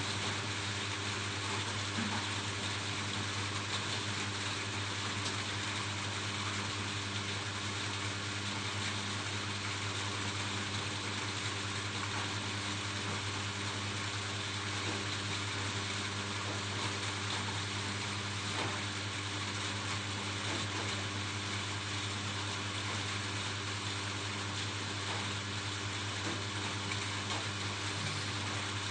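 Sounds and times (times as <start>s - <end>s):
rain on a roof: 0.0s - 28.9s.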